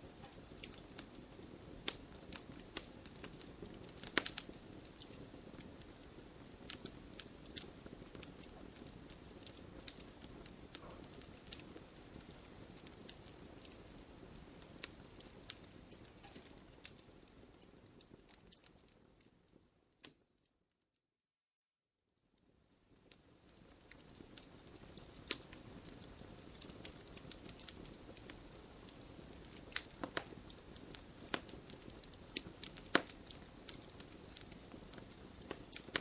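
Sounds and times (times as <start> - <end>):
fire crackling in a fireplace: 0.0 - 20.8, 22.1 - 36.0.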